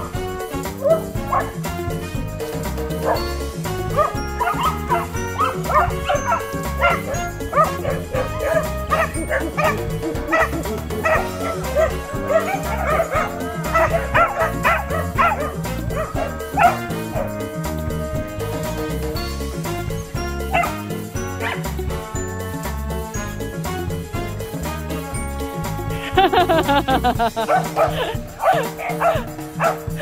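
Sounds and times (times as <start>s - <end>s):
background music with bass beat: 0.0s - 30.0s
dogs barking and yipping: 0.0s - 30.0s.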